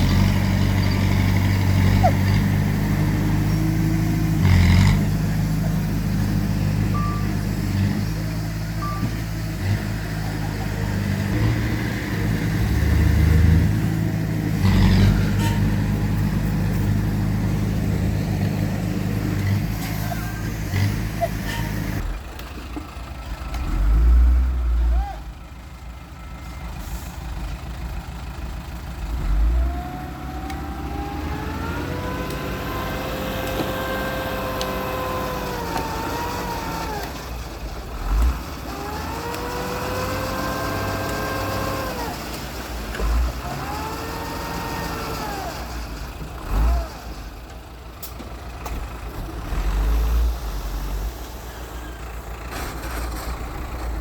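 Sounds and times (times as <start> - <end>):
diesel machinery engine revving: 0.0 - 25.6, 26.7 - 54.0.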